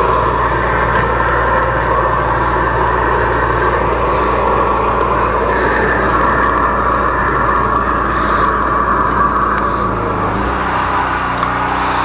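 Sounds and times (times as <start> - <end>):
sewer jetter engine running: 0.0 - 12.0.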